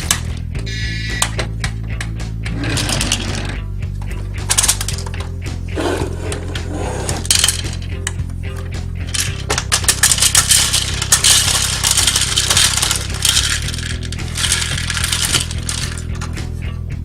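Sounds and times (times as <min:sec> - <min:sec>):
hard beans clattering: 0:02.5 - 0:16.5.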